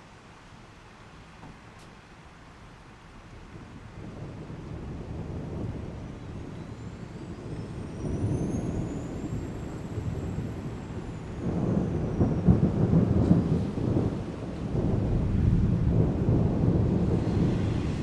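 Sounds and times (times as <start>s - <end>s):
thunder rumbling: 3.3s - 18.0s.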